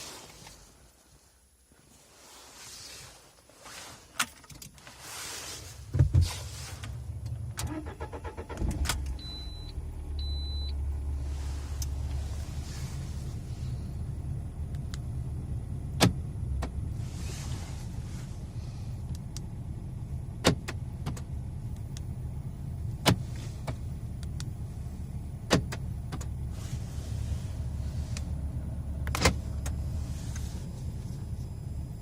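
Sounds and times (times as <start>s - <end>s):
steady low rumble: 4.9s - 32.0s.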